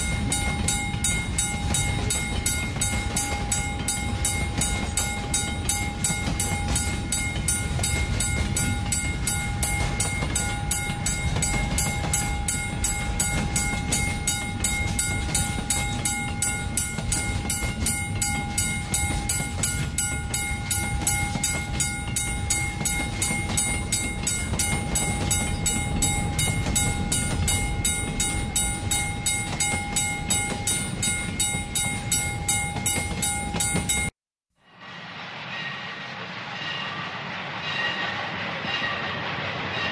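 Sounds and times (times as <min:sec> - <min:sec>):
train rumbling clatter: 0:00.0 - 0:34.1, 0:34.7 - 0:39.9
train whine: 0:00.0 - 0:39.9.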